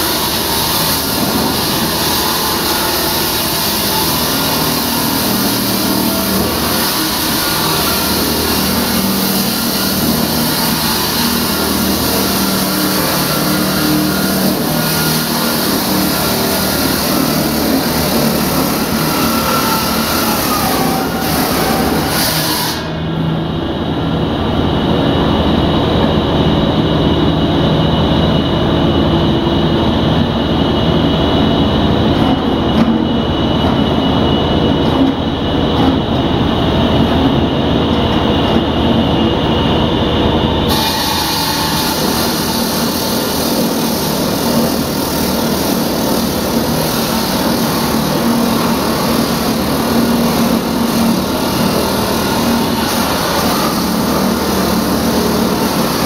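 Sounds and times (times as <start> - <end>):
engine-driven machinery running: 0.0 - 56.0.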